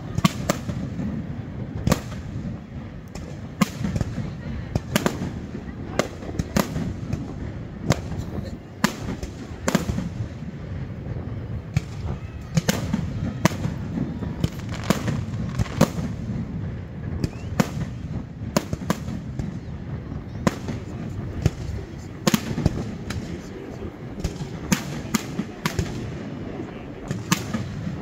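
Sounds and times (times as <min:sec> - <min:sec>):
fireworks bursting bangs: 0:00.0 - 0:28.0.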